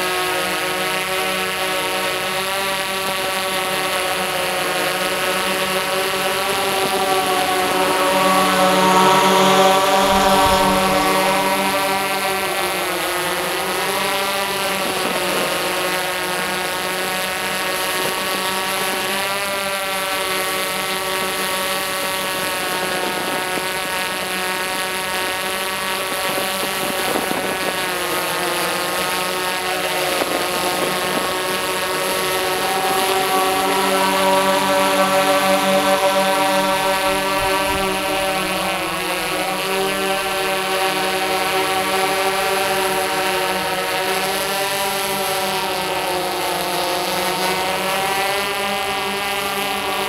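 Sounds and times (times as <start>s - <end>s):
multirotor drone motors droning: 0.0s - 50.0s.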